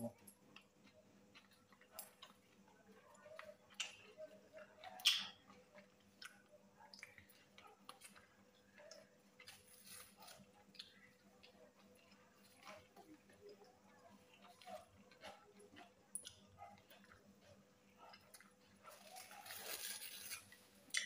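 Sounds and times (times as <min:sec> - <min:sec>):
people chewing and biting: 0:00.1 - 0:21.0.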